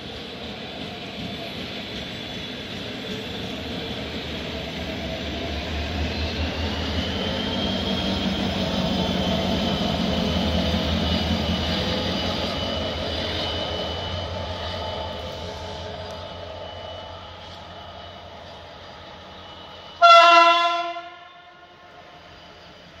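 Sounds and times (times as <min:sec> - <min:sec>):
diesel locomotive passing: 0:00.0 - 0:23.0.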